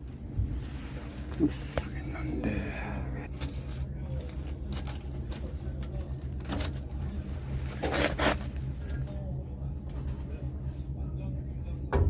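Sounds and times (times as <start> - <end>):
refrigeration unit humming: 0.0 - 12.0.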